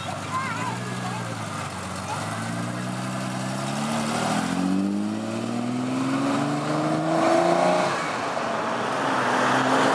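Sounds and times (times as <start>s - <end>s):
car engine accelerating: 0.3s - 9.9s.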